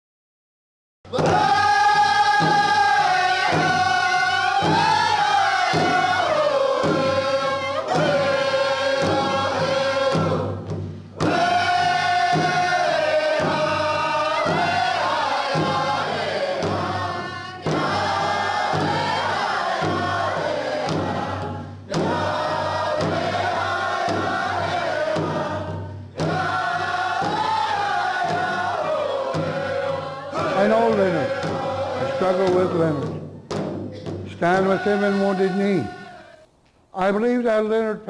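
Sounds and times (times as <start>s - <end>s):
large drum beating: 1.1s - 36.0s
singers singing in unison: 1.1s - 36.5s.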